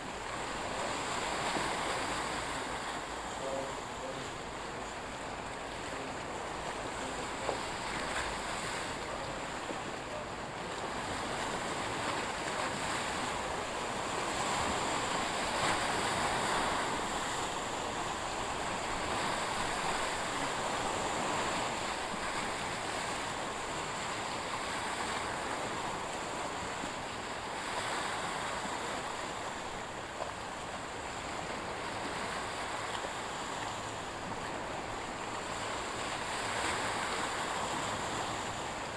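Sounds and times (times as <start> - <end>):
waves washing: 0.0 - 38.9
wind: 0.0 - 38.9.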